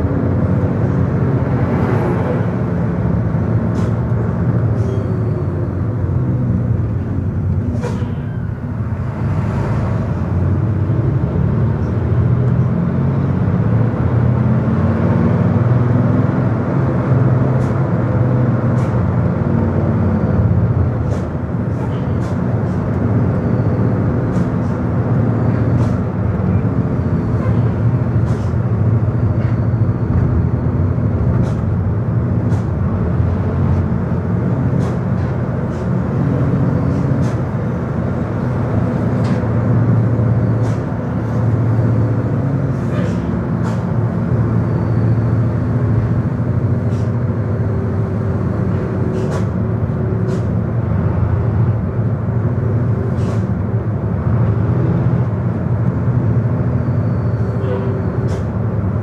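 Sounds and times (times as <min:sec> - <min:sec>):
vehicle engine hum: 0:00.0 - 0:59.0.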